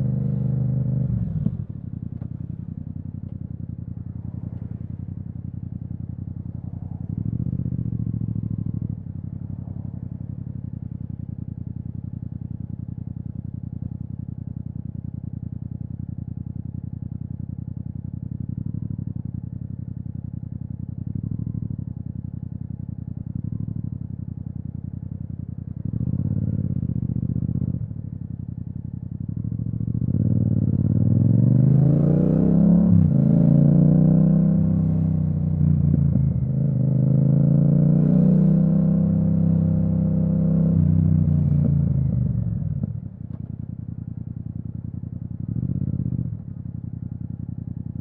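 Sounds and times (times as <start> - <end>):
motorcycle engine burbling and accelerating: 0.0 - 48.0.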